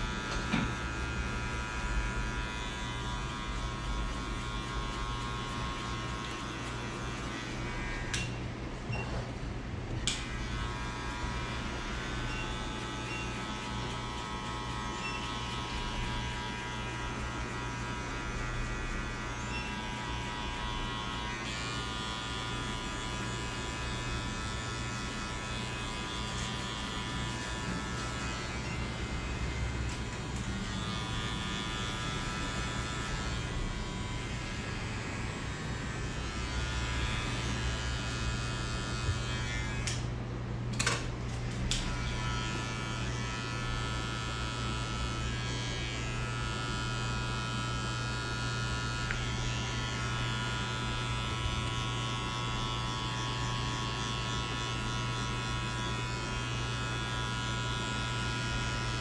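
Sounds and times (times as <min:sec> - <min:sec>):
electric hair clippers buzzing: 0:00.0 - 0:08.9, 0:09.9 - 0:59.0.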